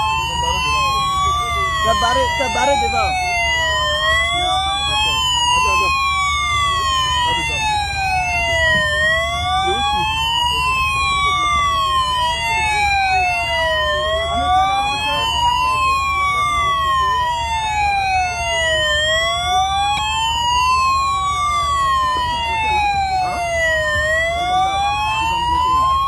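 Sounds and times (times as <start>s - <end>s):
police sirens wailing: 0.0s - 26.0s.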